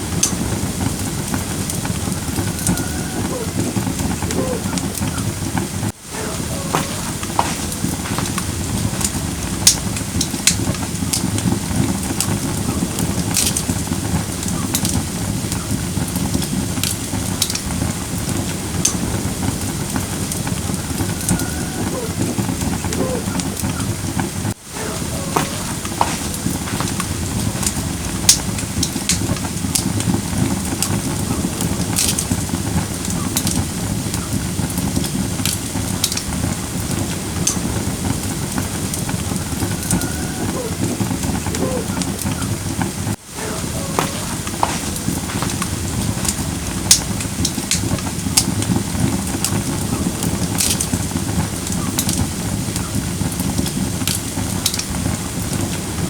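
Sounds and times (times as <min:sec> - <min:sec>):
firewood burning with crackles: 0:00.0 - 0:56.0.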